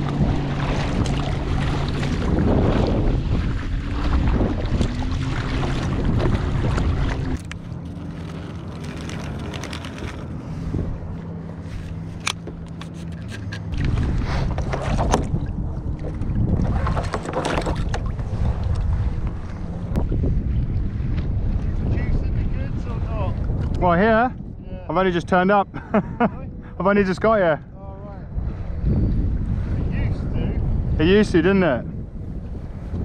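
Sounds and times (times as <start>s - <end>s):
water lapping against a hull: 0.0s - 24.7s, 28.2s - 30.9s, 31.9s - 33.0s
low motorboat engine hum: 0.0s - 33.0s
wind buffeting microphone: 0.0s - 33.0s.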